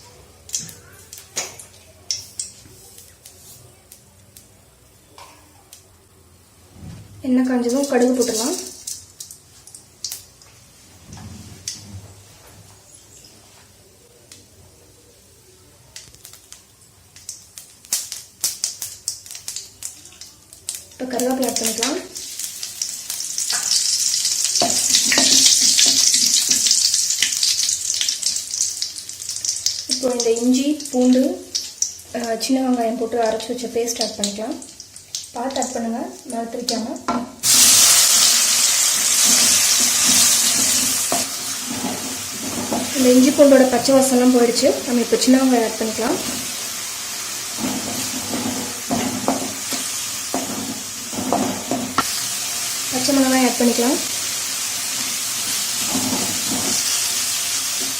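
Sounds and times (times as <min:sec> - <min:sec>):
leaves sizzling in hot oil: 0:00.0 - 0:05.0, 0:07.3 - 0:12.5, 0:13.1 - 0:57.9.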